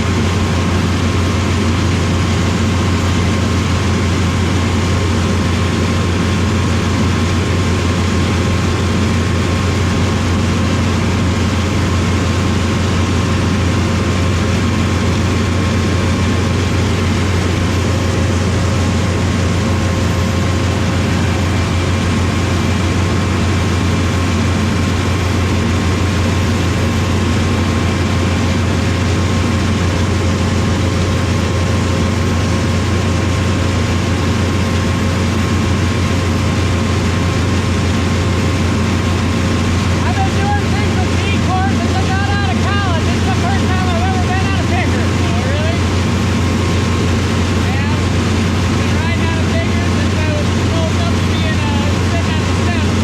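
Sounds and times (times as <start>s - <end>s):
harvesting machinery engine drone: 0.0s - 53.0s
machinery whines: 0.0s - 53.0s.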